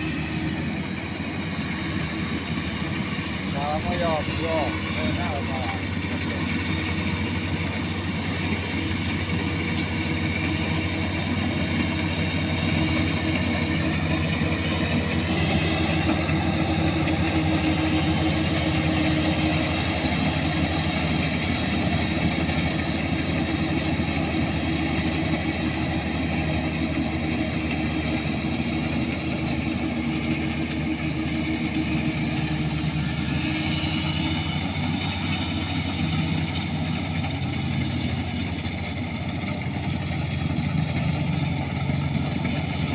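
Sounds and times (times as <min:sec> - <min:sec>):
harvester diesel engine drone: 0:00.0 - 0:42.9.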